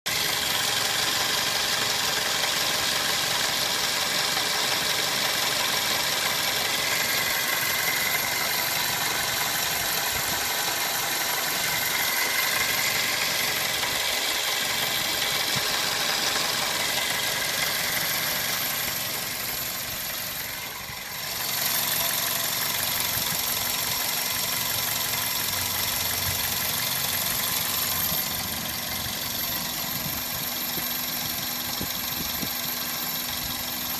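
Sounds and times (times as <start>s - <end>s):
vehicle engine idling: 0.1s - 33.9s.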